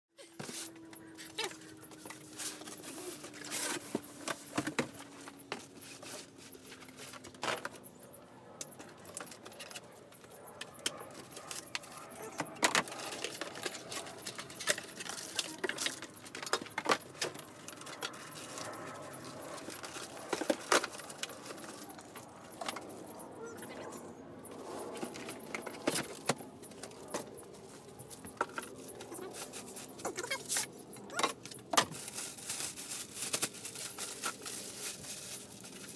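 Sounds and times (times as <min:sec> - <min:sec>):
packaging rustling: 0:00.5 - 0:07.4, 0:10.8 - 0:23.1, 0:24.6 - 0:35.9.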